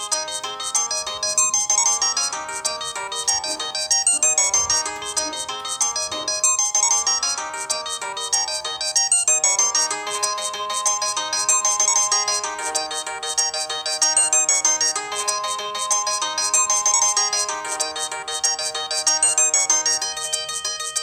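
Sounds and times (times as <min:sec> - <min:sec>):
phone ringtone midi tune: 0:00.0 - 0:21.0.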